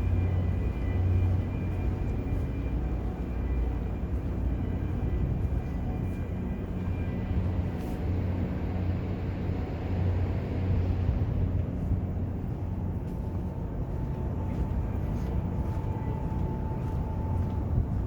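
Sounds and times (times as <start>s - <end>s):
faint steady tone: 0.0s - 18.0s
ship machinery and ventilation hum: 0.0s - 18.0s.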